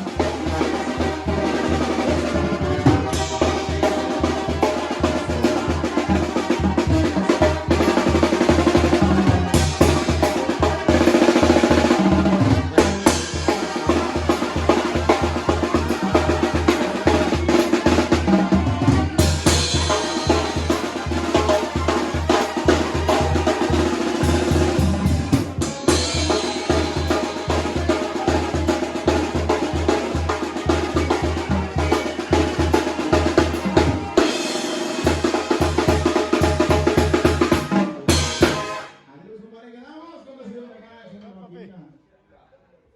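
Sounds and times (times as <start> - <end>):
bass drum and snare: 0.0 - 39.0
brass band playing: 0.0 - 39.3.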